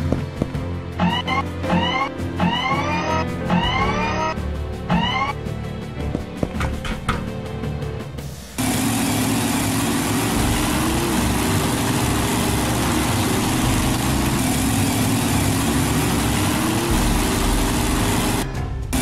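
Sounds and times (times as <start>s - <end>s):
small truck engine running: 0.0s - 19.0s.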